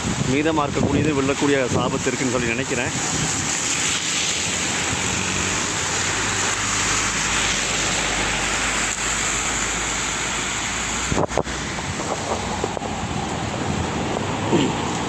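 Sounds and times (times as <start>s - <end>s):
rain and wind rushing: 0.0s - 15.0s.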